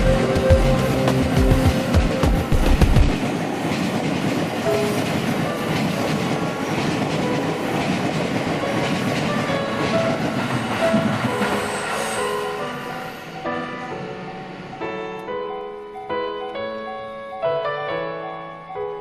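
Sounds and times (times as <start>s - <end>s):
train wheels rumbling on rails: 0.0s - 15.4s.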